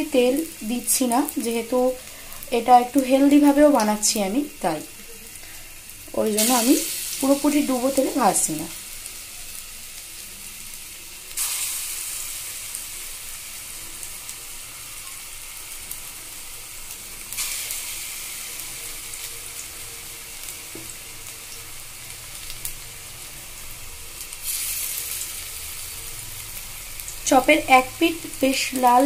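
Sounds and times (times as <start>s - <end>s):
batter sizzling in hot oil: 0.0s - 29.0s.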